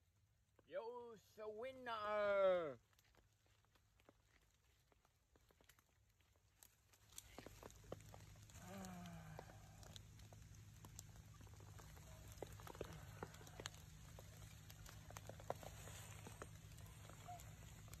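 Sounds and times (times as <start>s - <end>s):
ticks and patter on wet leaves: 2.8s - 18.0s.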